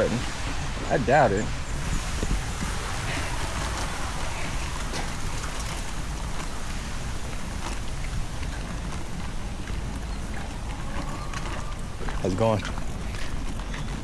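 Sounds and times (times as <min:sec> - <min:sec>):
fountain water splashing: 0:00.0 - 0:13.6.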